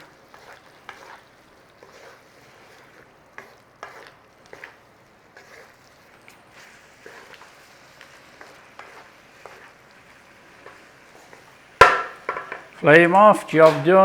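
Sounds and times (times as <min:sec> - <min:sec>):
utensil scraping a pan: 0:00.0 - 0:13.9
food sizzling in a pan: 0:00.0 - 0:14.0.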